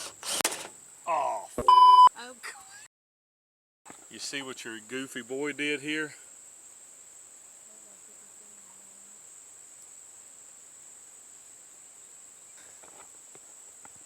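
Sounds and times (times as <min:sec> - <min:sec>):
crickets chirring: 0:00.0 - 0:01.5, 0:03.9 - 0:14.0.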